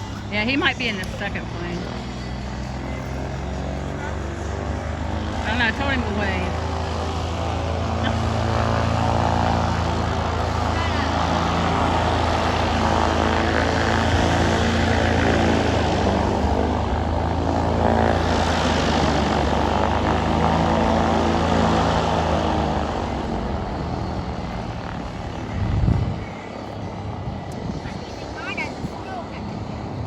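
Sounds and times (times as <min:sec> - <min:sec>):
propeller airplane engine: 0:00.0 - 0:30.0.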